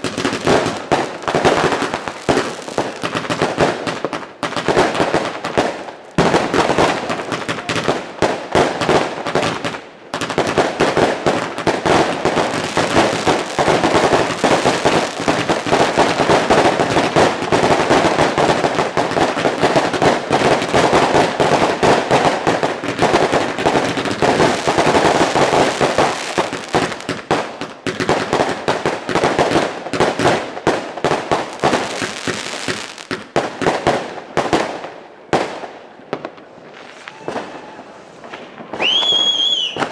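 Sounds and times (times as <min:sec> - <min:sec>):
firecrackers banging and crackling: 0:00.0 - 0:39.9.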